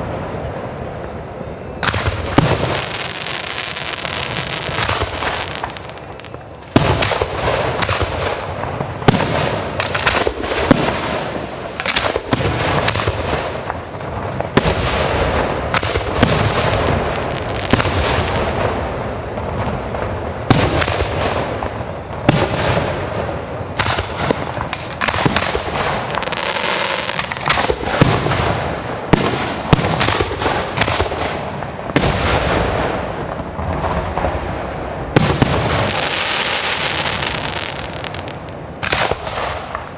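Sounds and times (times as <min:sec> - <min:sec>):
fireworks bursts and bangs: 0:00.0 - 0:39.9
fireworks crackling: 0:00.0 - 0:39.9.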